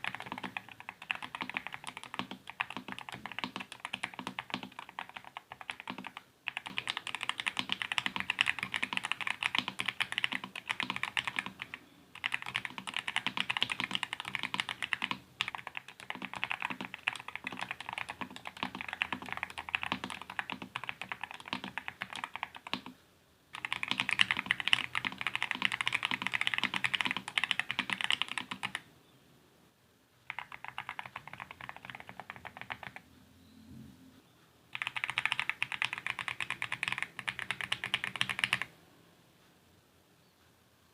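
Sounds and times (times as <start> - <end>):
fast typing on mechanical keyboard: 0.0 - 28.8, 30.3 - 33.0, 34.7 - 38.7.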